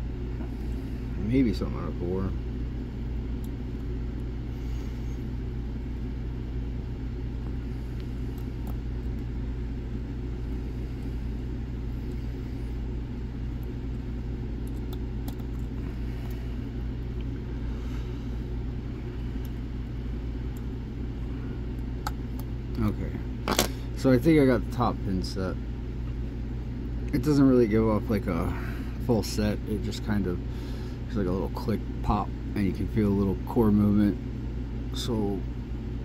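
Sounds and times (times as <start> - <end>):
low background rumble: 0.0 - 36.0.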